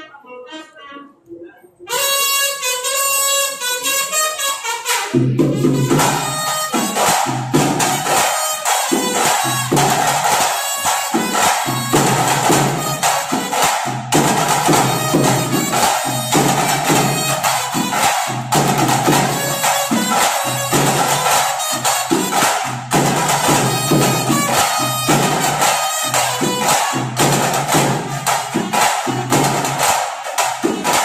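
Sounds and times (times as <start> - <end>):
wind instrument melody: 0.0 - 29.6
fast drum and percussion beat: 5.0 - 31.0.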